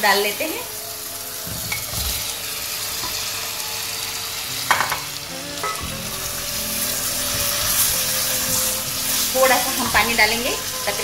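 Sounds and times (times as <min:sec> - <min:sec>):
spice paste sizzling in a pot: 0:00.0 - 0:11.0.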